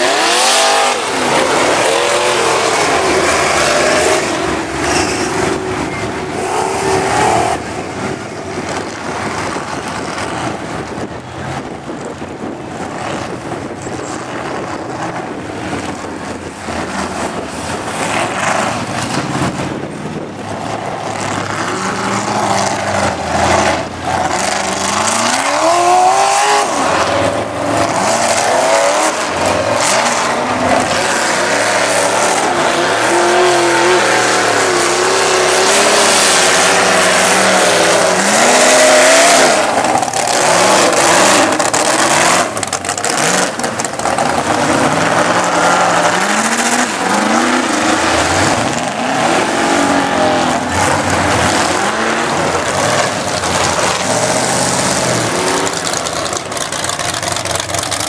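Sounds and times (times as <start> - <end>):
truck engines revving: 0.0 - 58.0
tyres churning through mud: 0.0 - 58.0.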